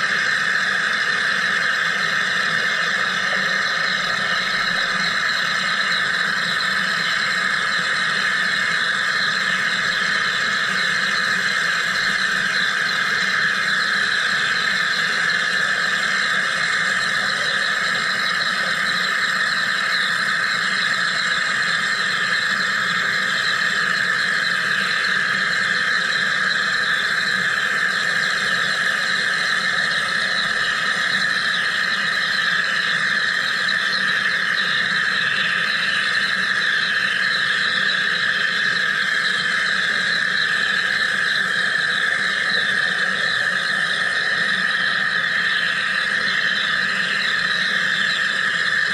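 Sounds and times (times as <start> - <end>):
machine hissing buzz: 0.0 - 48.9.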